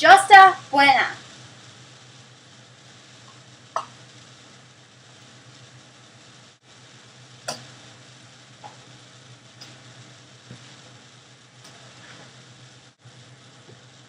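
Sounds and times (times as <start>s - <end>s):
rice sizzling in oil: 0.0s - 14.0s
steady low hum: 0.0s - 14.0s.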